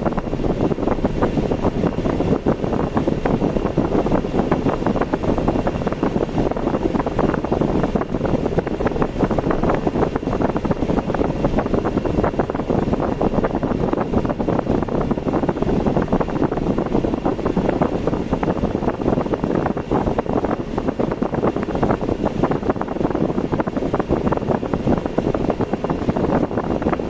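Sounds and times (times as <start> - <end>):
car road noise: 0.0 - 27.0
wind buffeting microphone: 0.0 - 27.0.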